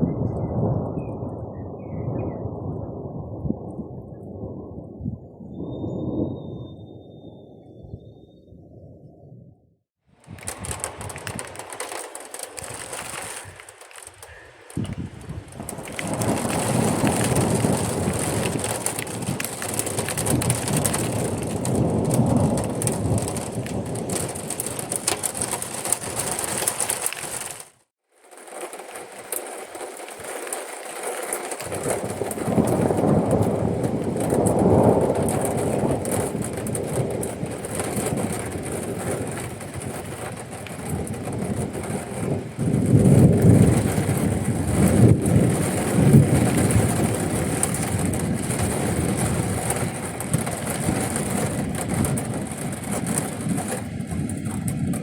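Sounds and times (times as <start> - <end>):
rolling thunder: 0.0 - 27.6, 31.5 - 55.0
rain hissing: 10.1 - 55.0.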